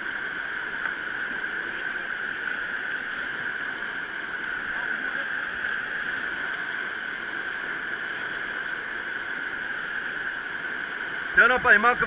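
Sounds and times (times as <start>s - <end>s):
water flowing over rocks: 0.0s - 12.0s.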